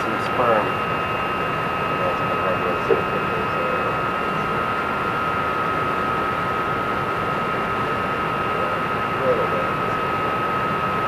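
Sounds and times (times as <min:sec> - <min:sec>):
high machine whine: 0:00.0 - 0:11.0.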